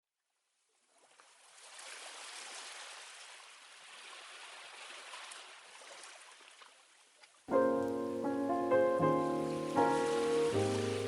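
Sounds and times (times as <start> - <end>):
rushing water: 0.8 - 11.0.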